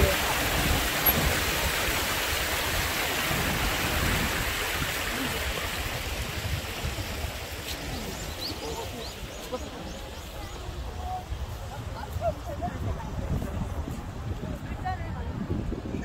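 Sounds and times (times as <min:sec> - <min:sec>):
stream water rushing: 0:00.0 - 0:15.4.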